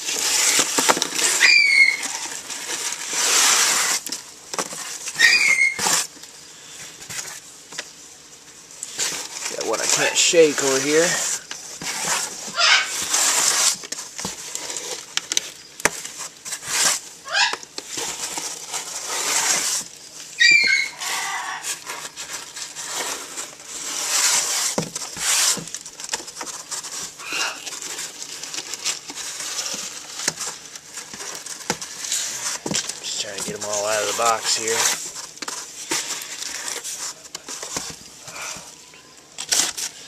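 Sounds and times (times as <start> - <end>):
rustling and scraping on cardboard: 0.0 - 40.0.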